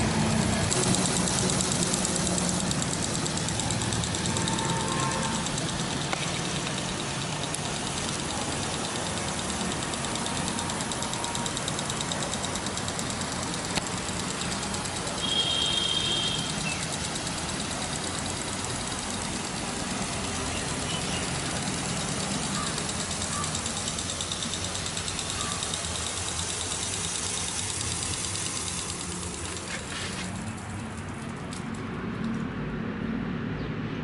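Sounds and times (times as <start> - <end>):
water sprinklers hissing: 0.0 - 31.4
steady low hum: 0.0 - 33.2.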